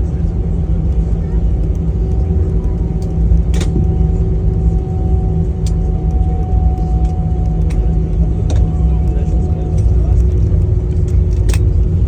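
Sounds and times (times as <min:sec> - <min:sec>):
airliner cabin rumble: 0:00.0 - 0:12.0
thin whine: 0:01.2 - 0:11.4.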